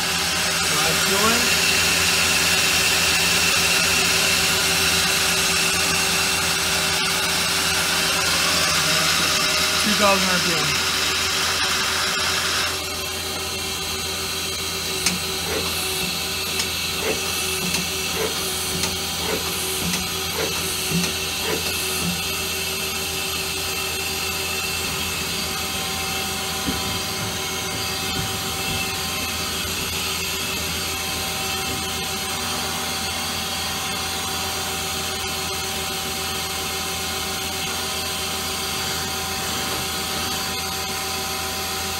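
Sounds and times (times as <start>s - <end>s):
lathe motor whine and hum: 0.0s - 41.9s.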